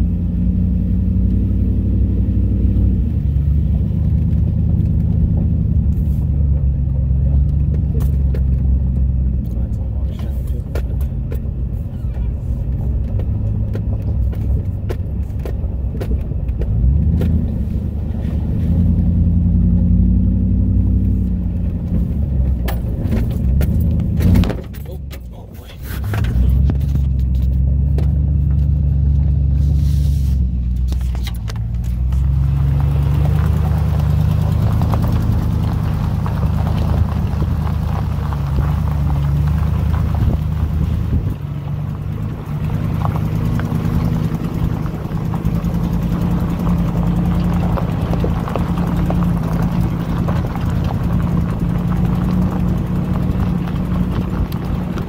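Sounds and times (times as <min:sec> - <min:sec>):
pickup truck engine droning: 0:00.0 - 0:55.0
tyres crunching over stones: 0:03.4 - 0:29.4, 0:30.6 - 0:55.0.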